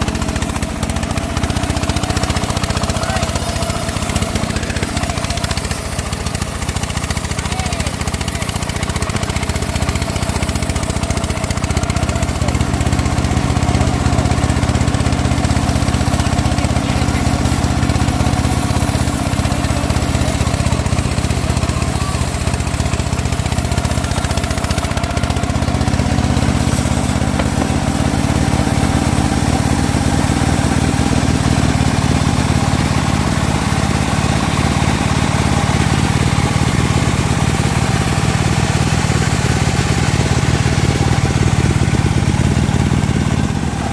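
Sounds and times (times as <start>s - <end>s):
bandsaw sawing wood: 0.0s - 43.9s.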